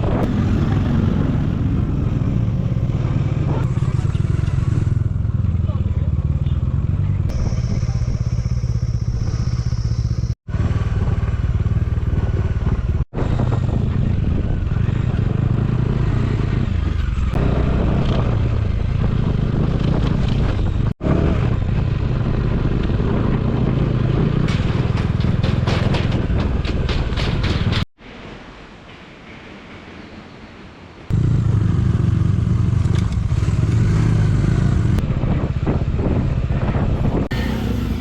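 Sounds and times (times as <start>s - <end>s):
road and wind noise: 0.0s - 38.0s
motorcycle engine running: 0.3s - 27.0s, 31.1s - 38.0s.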